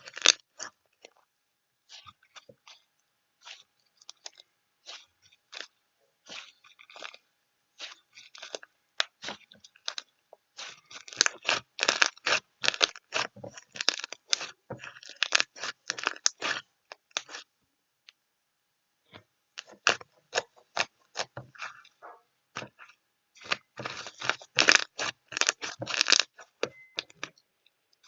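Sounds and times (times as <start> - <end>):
crisp chewing crunches: 0.0 - 17.5, 19.6 - 28.0.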